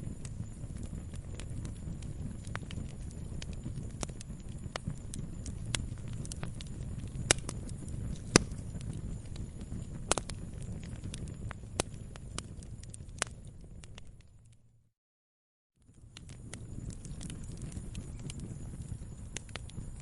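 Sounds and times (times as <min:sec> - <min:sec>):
wood crackling and popping: 0:00.0 - 0:14.6, 0:15.8 - 0:20.0
low rumble of flames: 0:00.0 - 0:14.8, 0:15.8 - 0:20.0.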